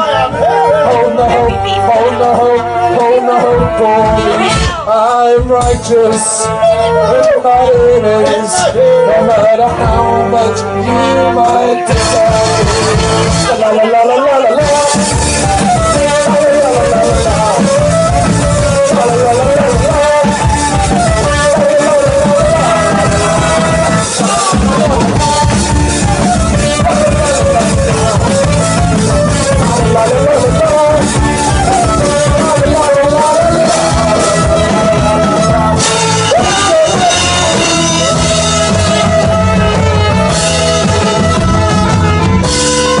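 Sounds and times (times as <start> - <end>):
bass: 0.0 - 43.0
drums: 0.0 - 43.0
held melody line: 0.0 - 43.0
live rock band playing: 0.0 - 43.0.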